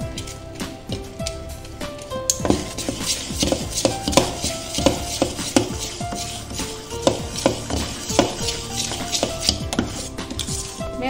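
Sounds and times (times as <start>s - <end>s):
light background music: 0.0s - 11.0s
spoon scraping metal bowl: 0.0s - 11.0s.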